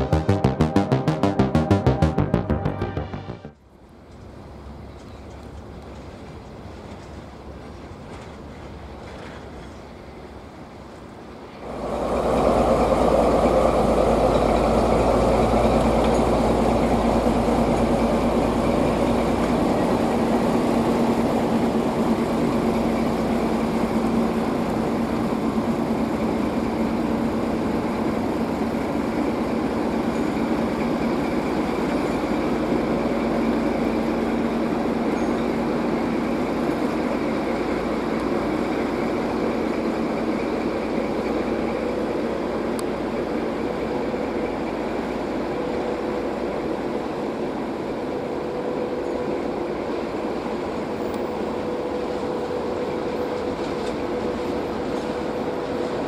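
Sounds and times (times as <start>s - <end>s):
diesel locomotive idling: 9.8s - 56.0s.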